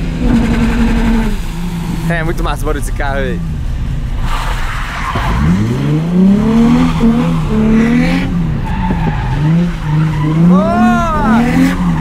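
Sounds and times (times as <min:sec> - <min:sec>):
car engine revving: 0:00.0 - 0:12.0
tyres sliding on wet asphalt: 0:00.0 - 0:12.0.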